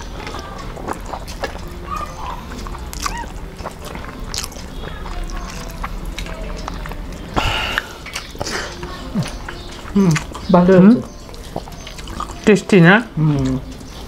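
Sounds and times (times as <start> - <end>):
fingers mixing rice and curry: 0.0 - 14.0
moist chewing: 0.0 - 14.0.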